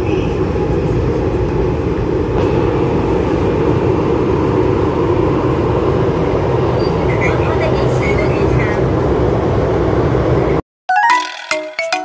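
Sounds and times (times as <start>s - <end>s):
metro train rumbling: 0.0s - 10.6s.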